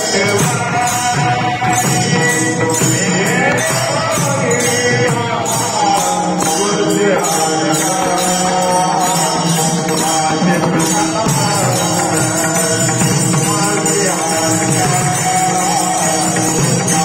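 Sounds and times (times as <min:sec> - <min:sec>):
jingling percussion: 0:00.0 - 0:17.0.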